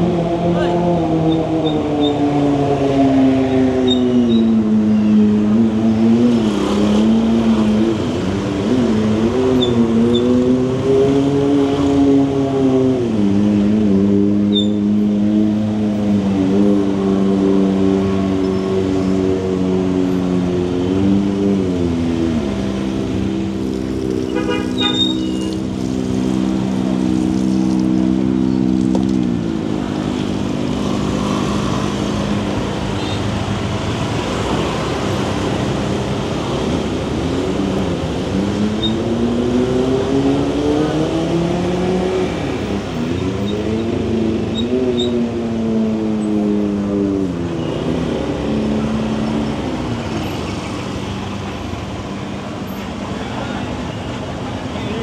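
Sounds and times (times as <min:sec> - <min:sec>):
road and traffic noise: 0:00.0 - 0:55.0.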